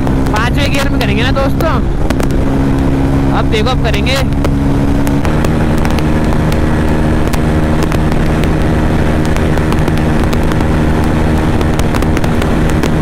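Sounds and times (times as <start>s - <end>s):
heavy wind rush: 0.0s - 13.0s
motorcycle engine near redline: 0.0s - 13.0s.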